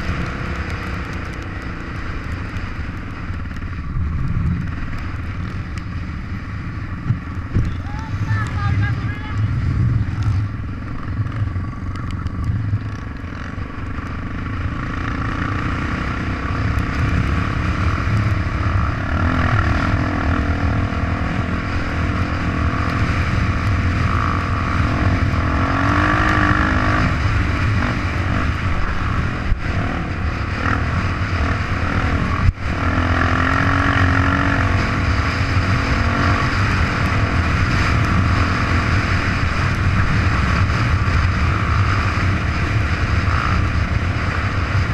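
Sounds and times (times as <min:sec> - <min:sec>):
motorcycle engine revving: 0:00.0 - 0:44.9
wind and road noise: 0:00.0 - 0:44.9.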